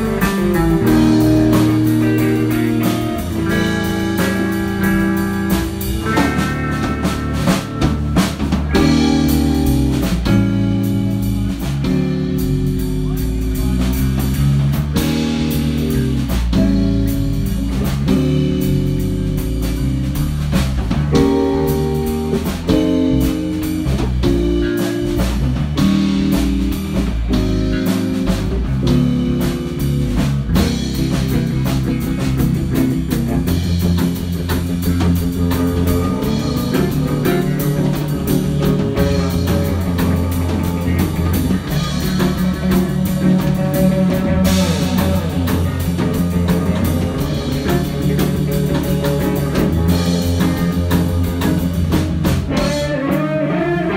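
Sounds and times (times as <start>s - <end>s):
blues-rock music: 0.0s - 53.9s.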